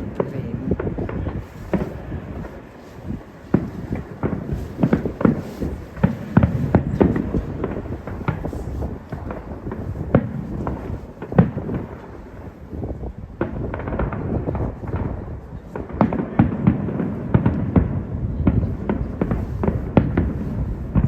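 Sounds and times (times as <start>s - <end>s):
fireworks bangs: 0.0s - 21.0s
rumble of booming shells: 0.0s - 21.0s.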